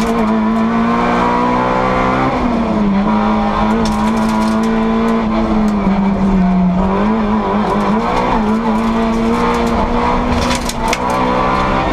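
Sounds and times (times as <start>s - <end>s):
car engine from inside cabin: 0.0s - 11.9s.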